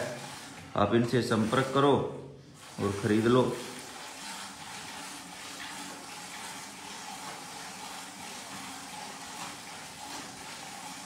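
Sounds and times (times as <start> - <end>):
milk squirting into pail: 0.0 - 11.0.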